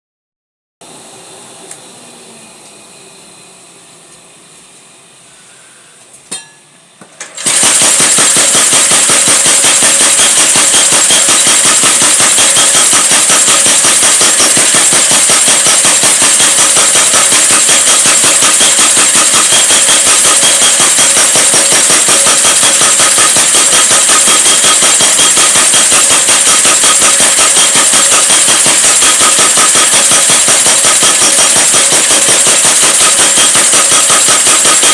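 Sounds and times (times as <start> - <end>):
power hammer striking: 6.3 - 34.9.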